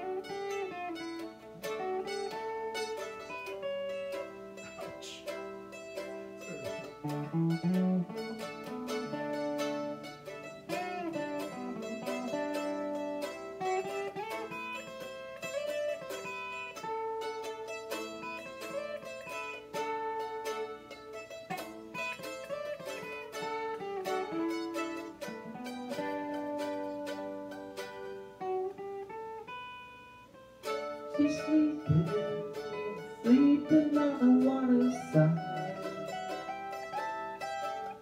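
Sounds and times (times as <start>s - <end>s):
acoustic guitar: 0.0s - 38.0s
mandolin melody: 0.0s - 38.0s.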